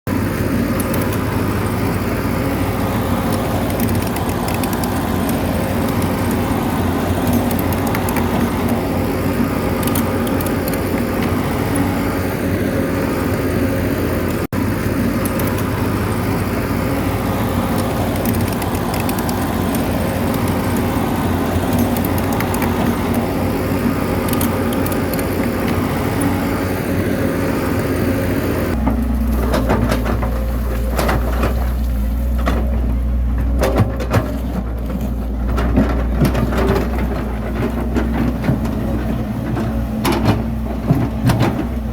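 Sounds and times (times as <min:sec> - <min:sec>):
bulldozer diesel engine running: 0:00.1 - 0:41.9.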